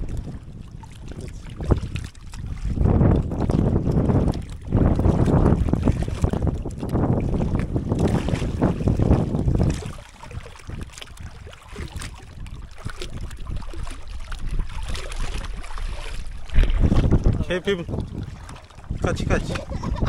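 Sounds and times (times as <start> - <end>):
water lapping and splashing: 0.0 - 20.0
wind buffeting microphone: 0.0 - 20.0.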